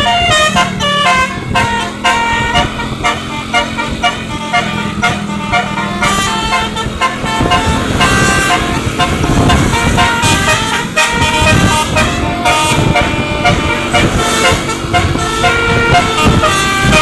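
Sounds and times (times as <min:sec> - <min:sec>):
bus noise: 0:00.0 - 0:17.0
musical bus horn tune: 0:00.0 - 0:17.0.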